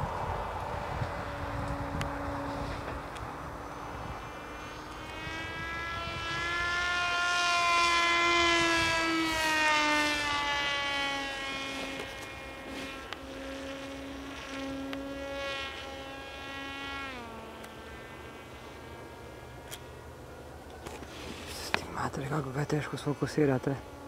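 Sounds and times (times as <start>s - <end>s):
model plane motor whining: 0.0s - 24.0s.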